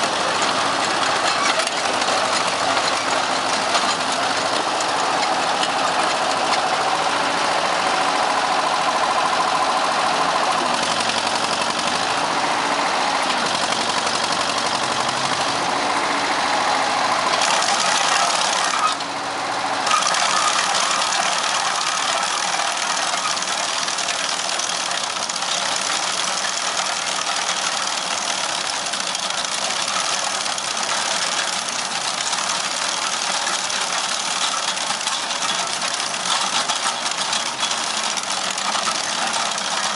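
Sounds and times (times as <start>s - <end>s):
trencher engine running: 0.0s - 39.9s.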